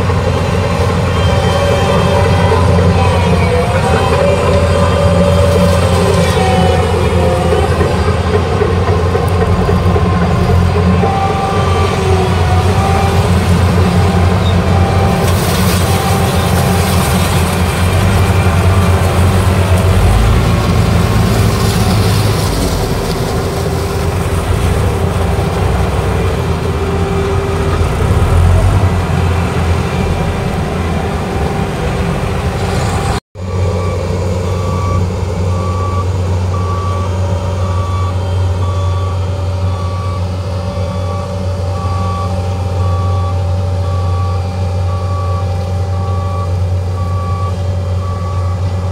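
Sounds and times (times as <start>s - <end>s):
diesel engine running: 0.0s - 48.9s
reversing alarm beeping: 0.6s - 23.9s, 26.6s - 48.9s.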